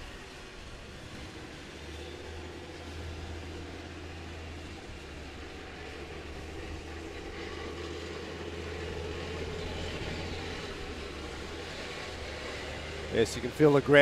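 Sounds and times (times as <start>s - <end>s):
low hum: 0.0s - 14.0s
tracked vehicle engines rumbling: 0.0s - 14.0s.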